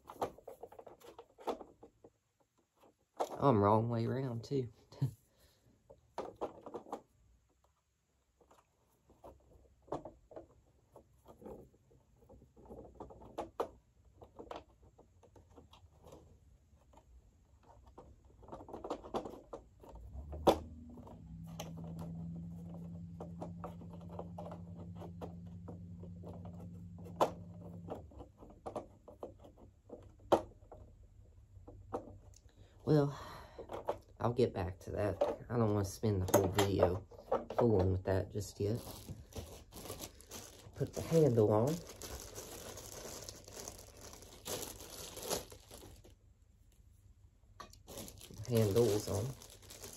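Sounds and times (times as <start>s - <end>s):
plastic parts clicking and knocking: 0.0s - 3.6s, 5.7s - 32.8s, 33.4s - 46.2s, 47.6s - 49.9s.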